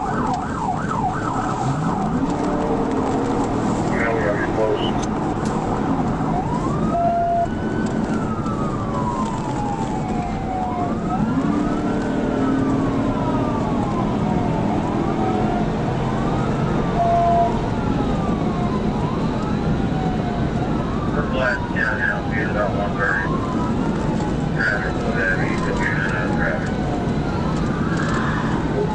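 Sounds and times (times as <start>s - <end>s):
car road and engine noise: 0.0s - 28.9s
police siren wailing: 0.0s - 28.9s.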